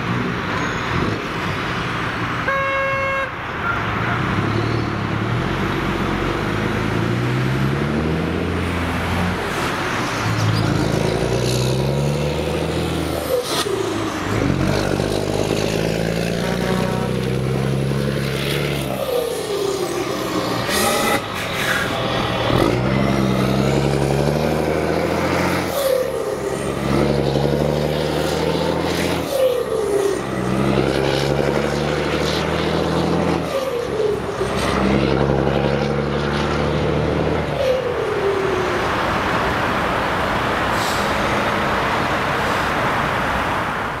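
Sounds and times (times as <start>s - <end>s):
road and tyre hiss: 0.0s - 44.0s
truck diesel engine accelerating: 3.4s - 44.0s.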